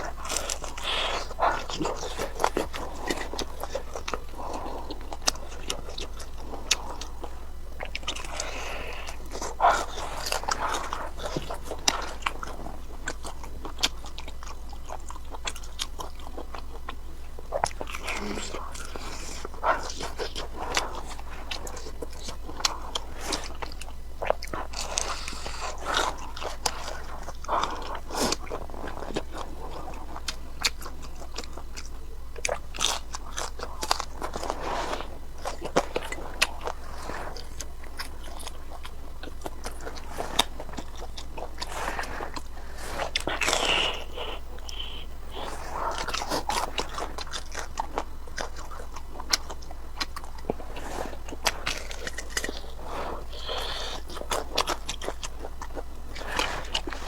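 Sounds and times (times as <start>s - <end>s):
mouth clicks: 0.0s - 57.0s
person chewing crunchy food: 0.0s - 57.0s
steady low hum: 0.0s - 57.0s.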